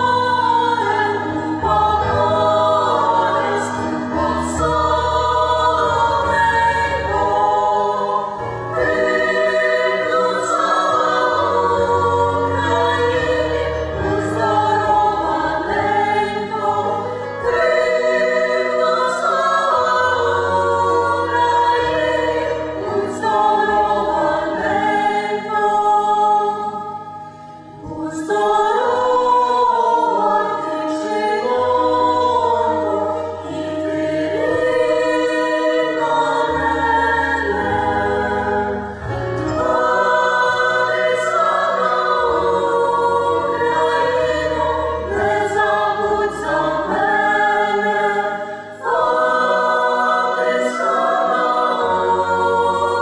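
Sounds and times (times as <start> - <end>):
mixed choir singing in parts: 0.0 - 53.0.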